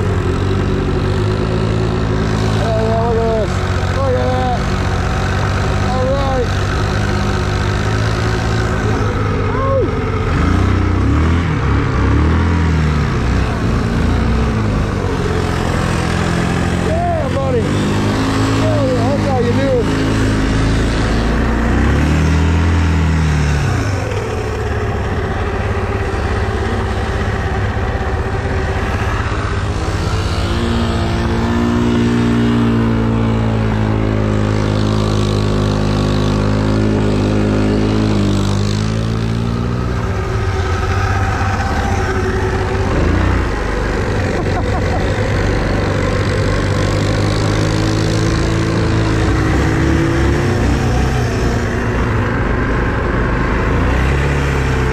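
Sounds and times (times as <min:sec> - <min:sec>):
atv engine revving under load: 0:00.0 - 0:54.9.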